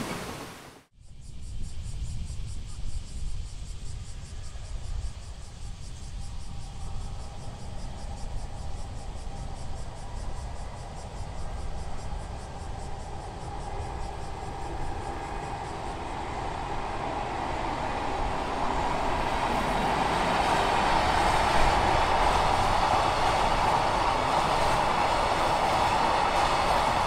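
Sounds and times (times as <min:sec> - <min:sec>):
train rolling across bridge: 0:00.0 - 0:00.8, 0:04.4 - 0:27.0.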